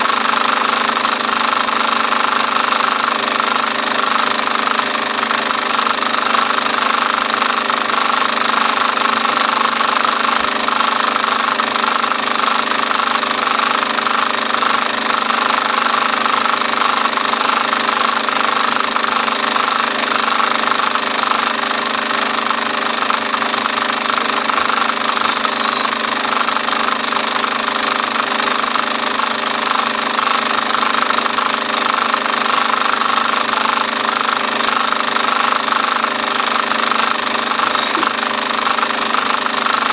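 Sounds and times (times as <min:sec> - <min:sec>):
film projector whirring and chattering: 0:00.0 - 0:39.9.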